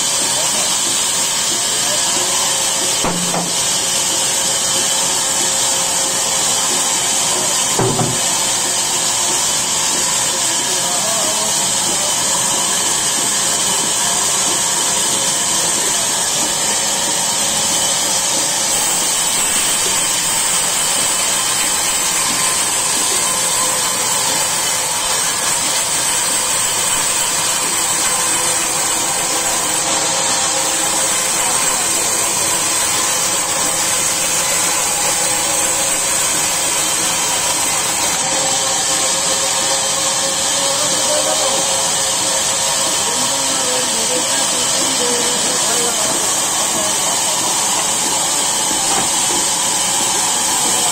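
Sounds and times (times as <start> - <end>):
band saw cutting log: 0.0 - 50.9.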